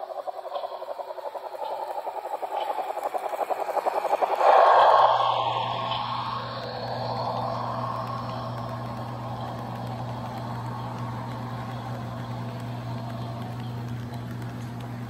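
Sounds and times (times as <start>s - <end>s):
constant low hum: 0.0s - 15.0s
small metal wheels rolling on rail: 0.0s - 15.0s.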